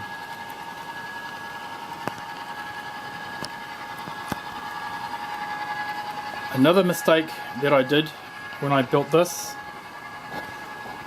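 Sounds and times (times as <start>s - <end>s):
model locomotive electric hum: 0.0s - 11.0s.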